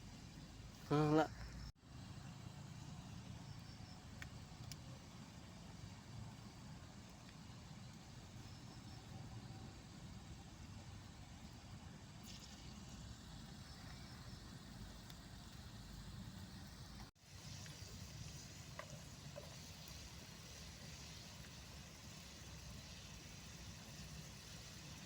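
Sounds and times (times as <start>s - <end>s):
faint outdoor background noise: 0.0s - 25.0s.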